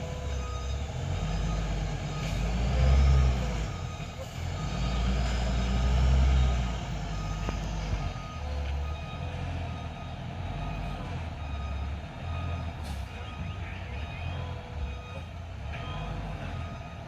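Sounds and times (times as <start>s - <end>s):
truck engine rumble: 0.0s - 17.0s
truck reversing alarm beeping: 0.0s - 17.0s.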